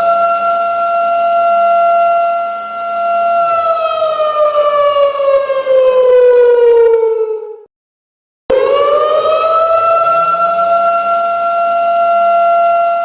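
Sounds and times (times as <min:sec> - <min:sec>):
siren wailing: 0:00.0 - 0:07.7, 0:08.5 - 0:13.0.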